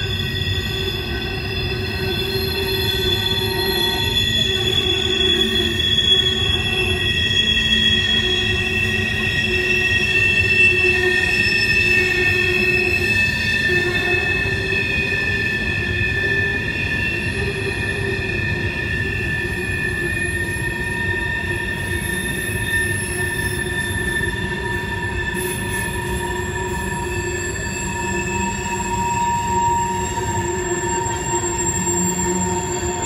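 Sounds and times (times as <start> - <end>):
low rumble of wheels on rail: 0.0 - 33.0
train wheels squealing: 0.0 - 33.0.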